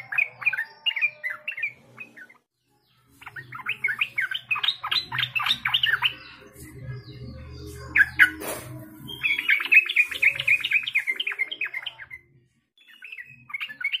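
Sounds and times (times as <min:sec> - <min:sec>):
bird singing chattering notes: 0:00.0 - 0:14.0.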